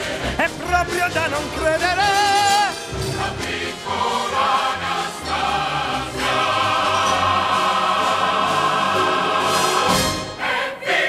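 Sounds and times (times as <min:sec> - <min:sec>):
orchestra playing show tune: 0:00.0 - 0:10.7
chorus singing: 0:00.0 - 0:11.0.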